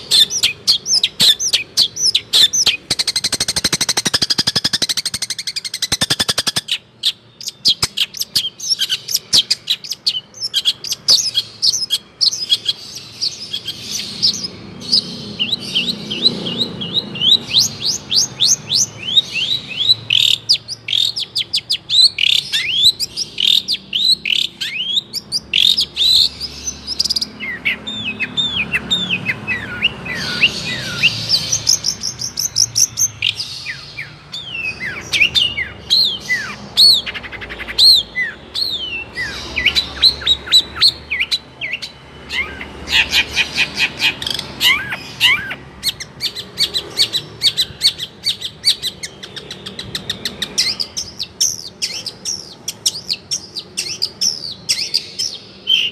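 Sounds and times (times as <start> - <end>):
bird singing varied song: 0.0 - 55.9.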